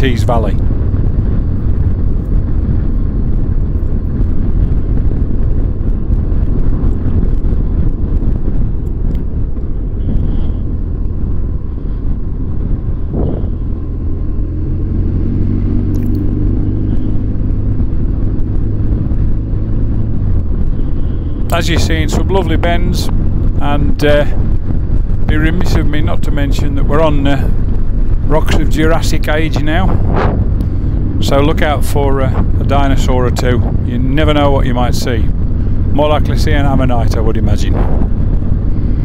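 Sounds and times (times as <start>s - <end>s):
motorcycle engine rumble: 0.0s - 39.0s
wind: 0.0s - 39.0s.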